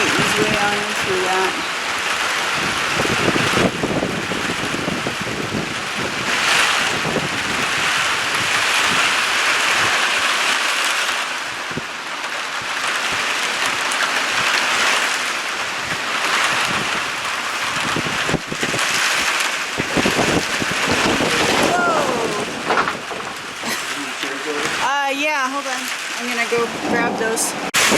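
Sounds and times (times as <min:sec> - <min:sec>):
storm wind rushing: 0:00.0 - 0:10.5, 0:11.4 - 0:27.9
wind buffeting microphone: 0:00.0 - 0:27.9.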